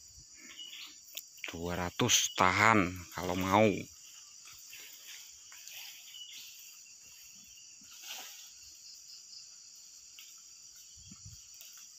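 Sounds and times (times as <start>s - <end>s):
high-pitched insect chorus: 0.0s - 11.9s.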